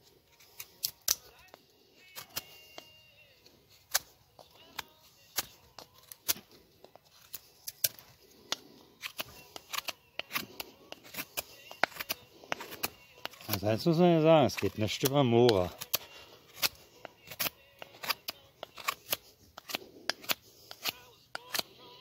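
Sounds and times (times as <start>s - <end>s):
knife carving wood: 0.2s - 22.0s.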